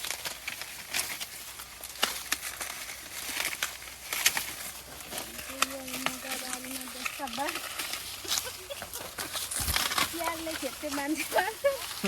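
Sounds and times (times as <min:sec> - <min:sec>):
dry corn plants rustling: 0:00.0 - 0:12.0.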